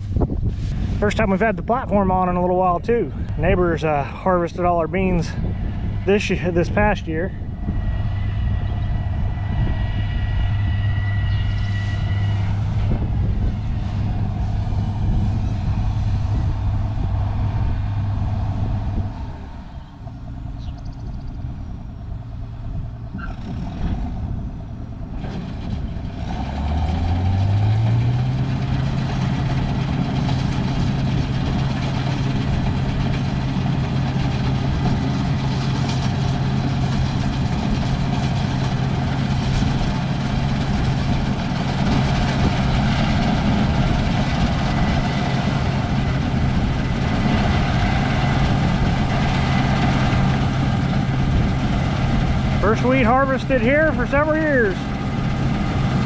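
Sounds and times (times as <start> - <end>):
diesel engine revving up: 0.0 - 56.0.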